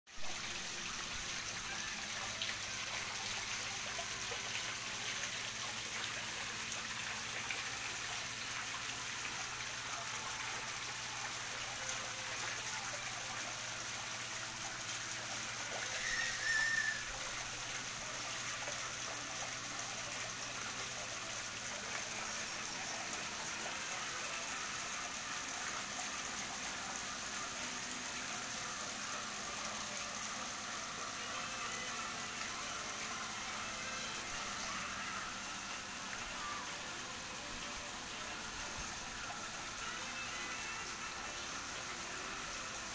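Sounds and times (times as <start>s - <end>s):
water trickling and splashing: 0.2s - 42.9s.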